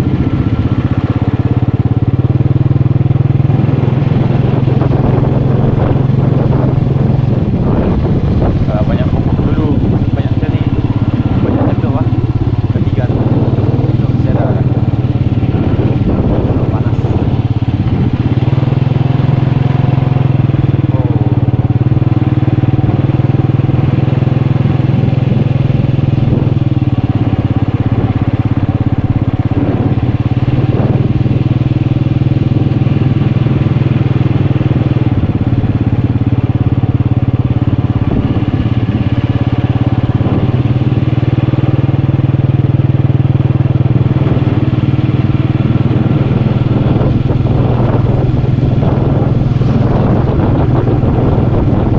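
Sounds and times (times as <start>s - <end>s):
motorcycle engine drone: 0.0s - 51.9s.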